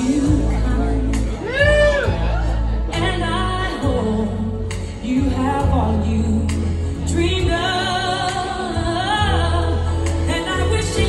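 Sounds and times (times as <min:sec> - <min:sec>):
backing track with heavy bass: 0:00.0 - 0:11.0
woman singing: 0:00.0 - 0:11.0.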